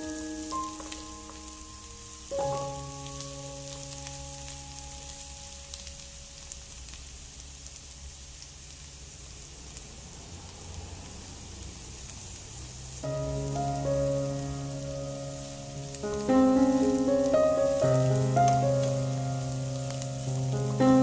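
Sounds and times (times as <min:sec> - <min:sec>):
spatula stirring crackles: 0:00.0 - 0:21.0
vegetables sizzling in a frying pan: 0:00.0 - 0:21.0.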